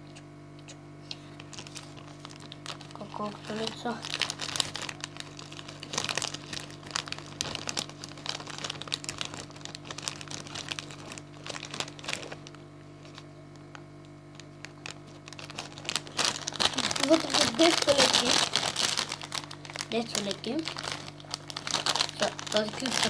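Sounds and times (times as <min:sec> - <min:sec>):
plastic snack packet crinkling: 0:01.1 - 0:23.0.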